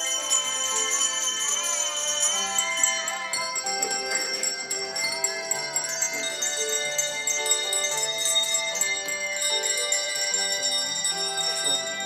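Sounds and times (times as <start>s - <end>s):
accompanying music: 0.0s - 12.0s
handbells ringing: 0.0s - 12.0s.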